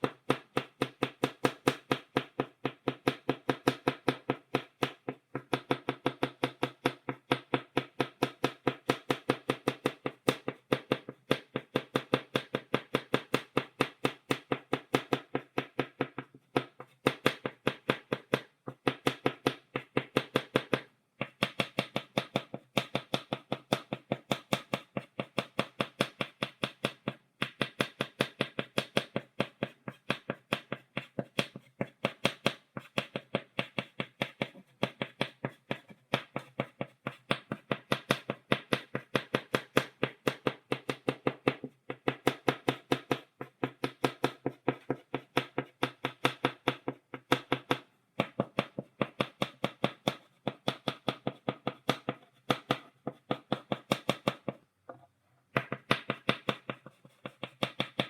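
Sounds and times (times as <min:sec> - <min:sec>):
chalk tapping on blackboard: 0:00.0 - 0:58.0.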